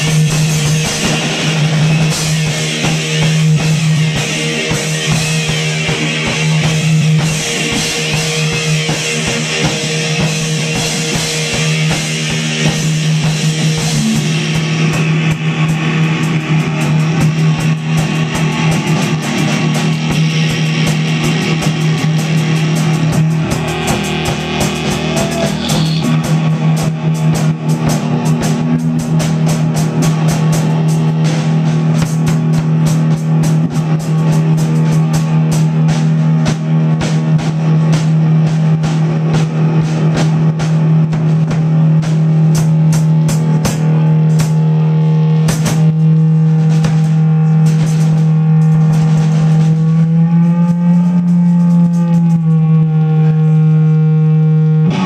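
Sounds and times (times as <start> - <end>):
fast drum kit hits and cymbals: 0.0 - 53.9
distorted electric guitar drone: 0.0 - 55.0.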